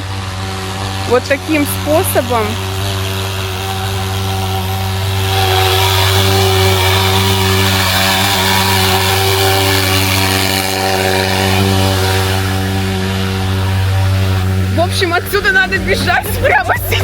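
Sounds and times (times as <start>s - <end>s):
fogging machine engine buzzing: 0.0s - 17.0s.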